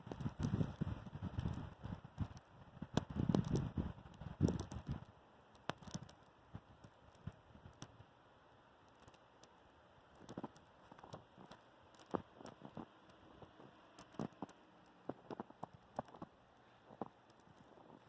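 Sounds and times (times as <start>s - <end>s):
soft clicks and crackles: 0.0s - 18.0s.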